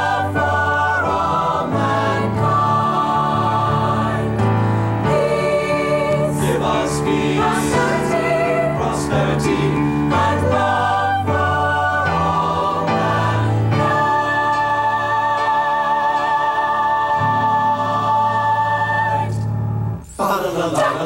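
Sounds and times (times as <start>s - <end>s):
mixed choir singing in harmony: 0.0s - 19.5s, 20.2s - 21.0s.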